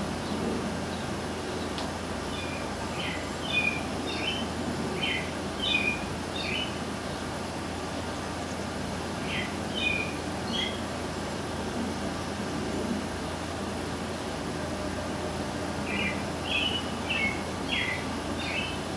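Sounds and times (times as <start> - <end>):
low background noise: 0.0 - 18.9.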